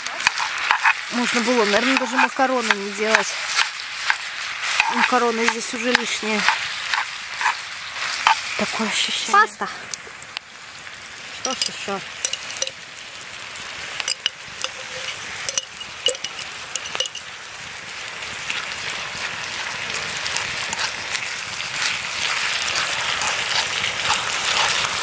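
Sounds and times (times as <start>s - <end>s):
sauce sizzling in a frying pan: 0.0s - 25.0s.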